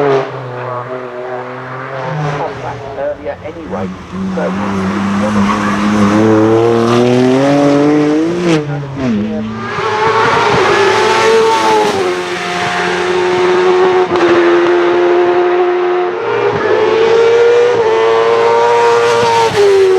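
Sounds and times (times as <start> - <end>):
racing car engine accelerating: 0.0 - 19.9.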